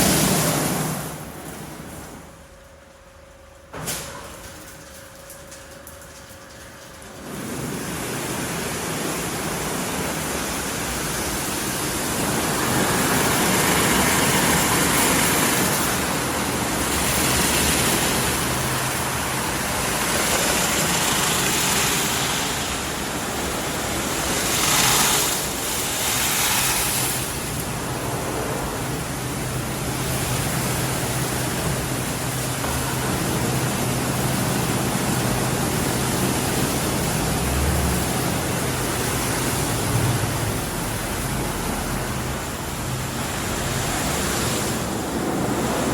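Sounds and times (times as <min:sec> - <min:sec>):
car wash water rushing: 0:00.0 - 0:02.6, 0:06.5 - 0:45.9
low machine hum: 0:00.0 - 0:45.9.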